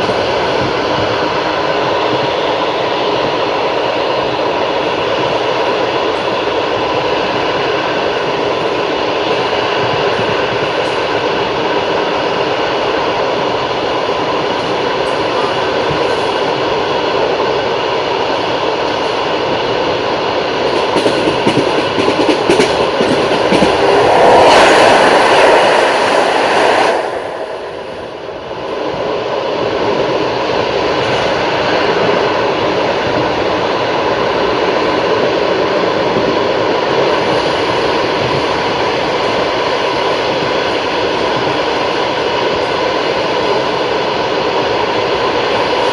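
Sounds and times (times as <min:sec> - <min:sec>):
train wheels roaring on rails: 0:00.0 - 0:45.9.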